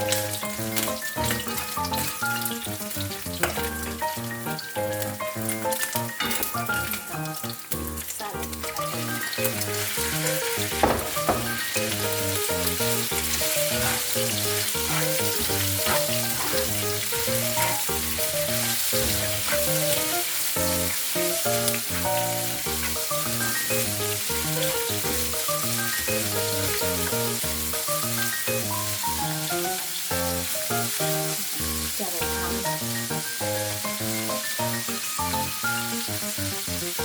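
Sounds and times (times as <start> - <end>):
background music with simple melody: 0.0 - 37.0
pork sizzling in a pan: 0.0 - 37.0.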